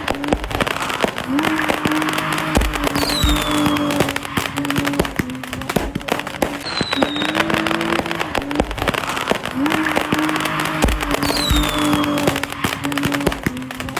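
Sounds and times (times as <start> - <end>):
crackling pops: 0.0 - 13.9.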